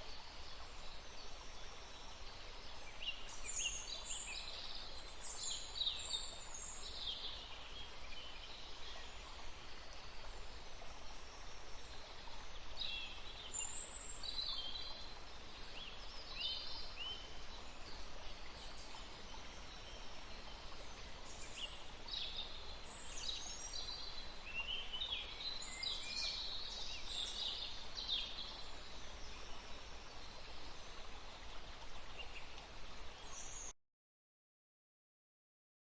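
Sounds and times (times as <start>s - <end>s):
outdoor ambience hiss: 0.0s - 33.7s.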